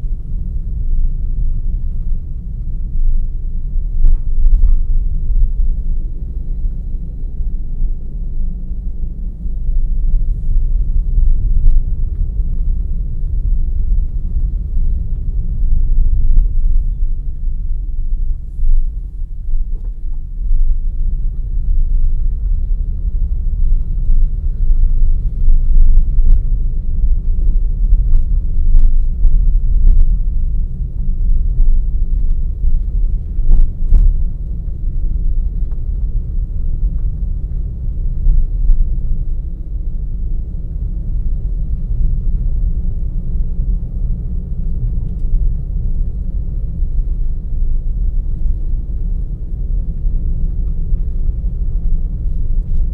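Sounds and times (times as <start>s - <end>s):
car engine and tyres rumbling: 0.0s - 52.9s.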